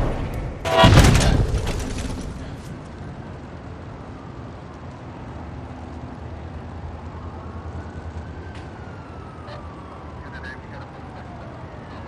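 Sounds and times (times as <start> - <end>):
low rumble of vehicle traffic: 0.0 - 12.0.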